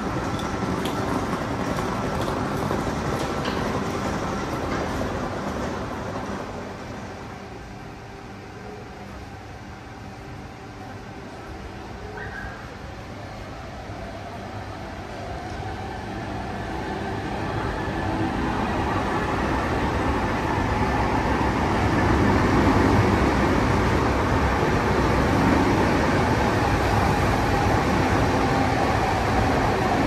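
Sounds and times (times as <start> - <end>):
train passing on rails: 0.0 - 30.0.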